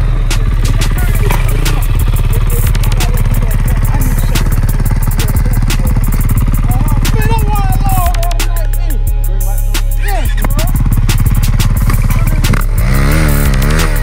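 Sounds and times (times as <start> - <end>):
dirt bike engine idling: 0.0 - 14.0
hip-hop instrumental: 0.0 - 14.0.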